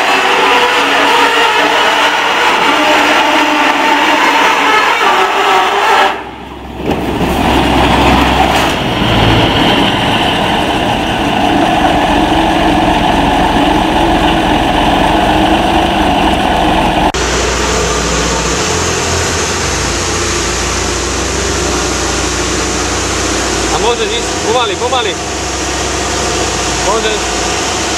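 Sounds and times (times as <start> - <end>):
skid dragging: 0.0 - 27.9
tractor diesel engine running: 0.0 - 27.9.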